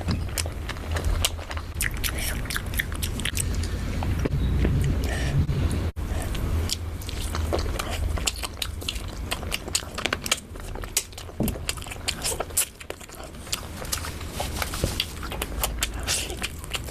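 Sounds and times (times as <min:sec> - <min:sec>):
wet chewing: 0:00.0 - 0:05.2, 0:06.1 - 0:16.9.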